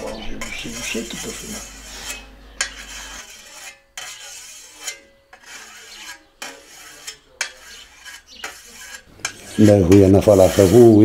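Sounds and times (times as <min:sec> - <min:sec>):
whetstone scraping a blade: 0:00.0 - 0:11.0.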